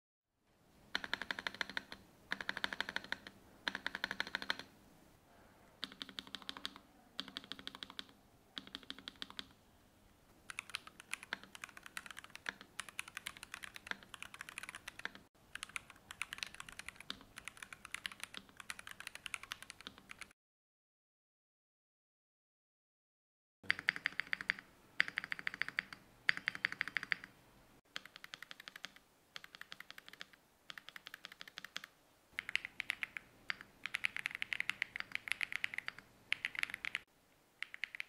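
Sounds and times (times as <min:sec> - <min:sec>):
fast keyboard typing: 0:01.0 - 0:04.7, 0:05.8 - 0:09.6, 0:10.5 - 0:20.3, 0:23.7 - 0:27.3, 0:27.9 - 0:38.0.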